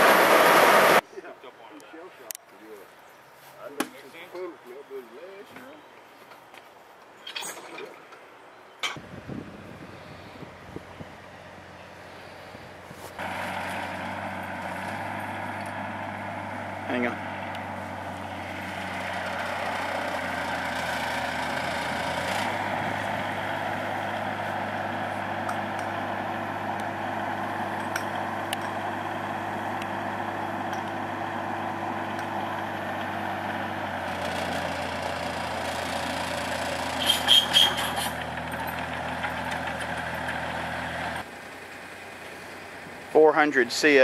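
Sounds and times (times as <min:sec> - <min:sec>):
diesel engines running: 0:00.0 - 0:01.0, 0:09.0 - 0:44.0.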